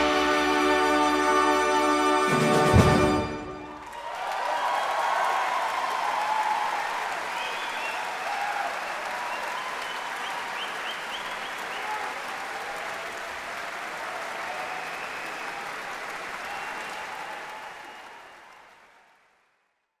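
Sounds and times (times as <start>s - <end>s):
audience applauding: 2.3s - 19.8s.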